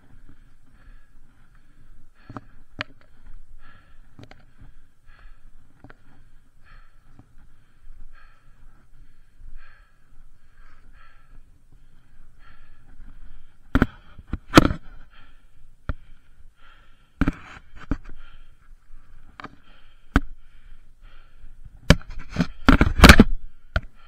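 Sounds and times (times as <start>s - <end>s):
person breathing hard: 0.0s - 24.0s.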